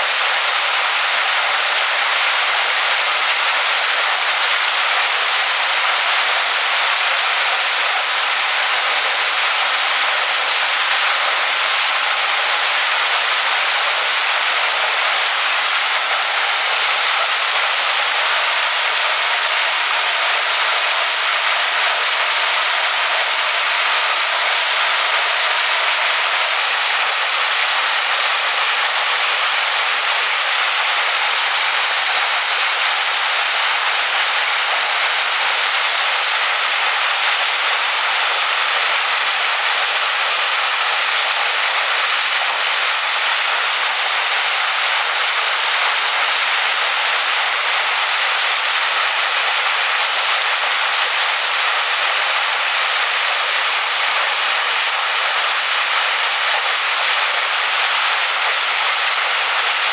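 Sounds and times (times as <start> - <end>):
waterfall pouring onto rocks: 0.0 - 59.9.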